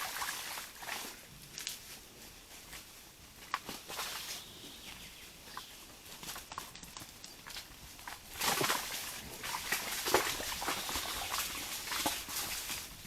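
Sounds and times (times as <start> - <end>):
rustling in leaf litter: 0.7 - 13.0.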